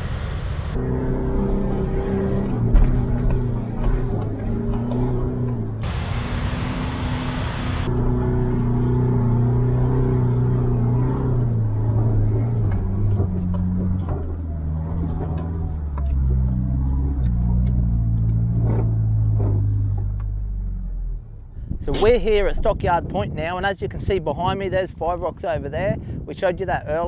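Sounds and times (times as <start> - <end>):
engine revving from cab: 0.0 - 22.2.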